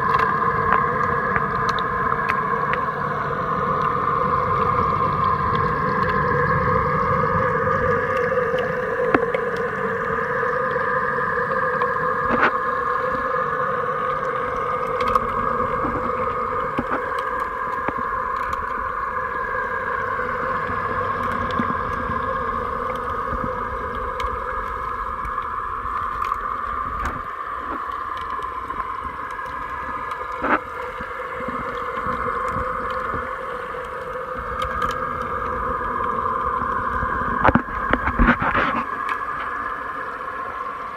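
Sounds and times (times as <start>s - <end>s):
pool vacuum motor humming: 0.0s - 40.9s.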